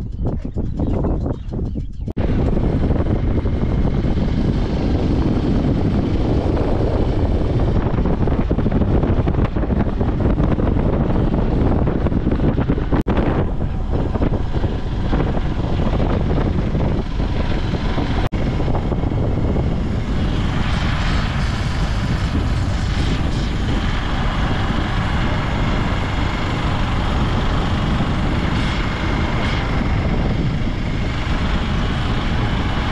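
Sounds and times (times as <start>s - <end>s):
motorcycle engine running: 0.0s - 32.9s
wind rushing on microphone: 0.0s - 32.9s.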